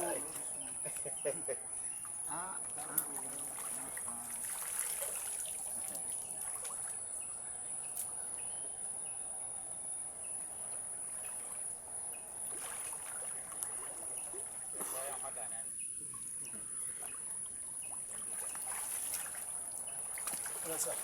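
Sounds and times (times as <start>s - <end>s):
stream water trickling: 0.0s - 21.0s.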